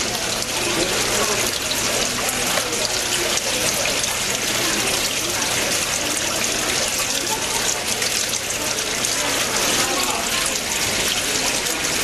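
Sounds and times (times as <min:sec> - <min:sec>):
indoor waterfall splashing: 0:00.0 - 0:12.0.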